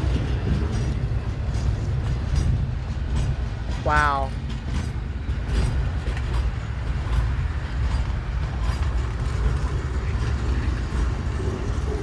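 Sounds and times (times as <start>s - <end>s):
freight train cars rumbling: 0.0s - 12.0s
train wheel clicks: 0.0s - 12.0s.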